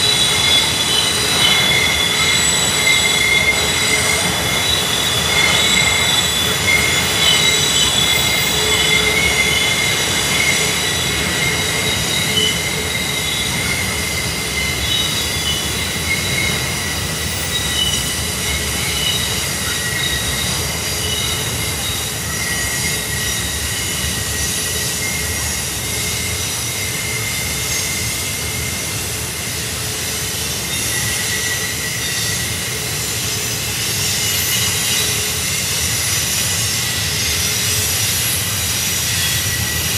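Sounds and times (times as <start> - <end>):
low rumble of freight cars: 0.0 - 39.9
train wheel flanges squealing: 0.0 - 39.9.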